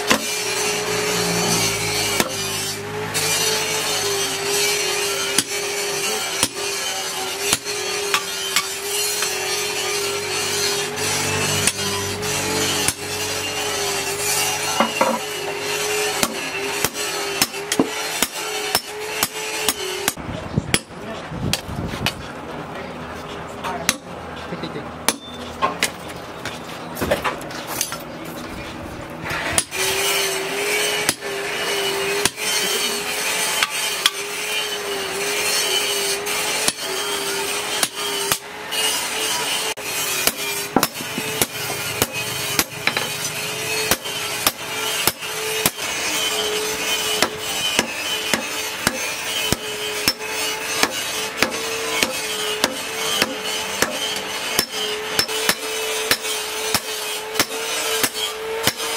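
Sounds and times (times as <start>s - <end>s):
hammer striking steel on anvil: 1.9s - 22.2s, 23.8s - 24.1s, 25.0s - 26.0s, 29.4s - 34.8s, 35.4s - 58.9s.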